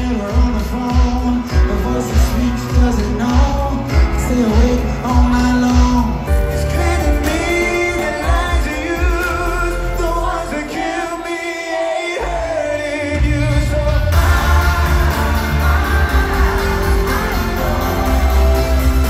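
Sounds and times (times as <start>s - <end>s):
male vocal group singing in harmony: 0.0s - 19.0s
pop backing track: 0.0s - 19.0s.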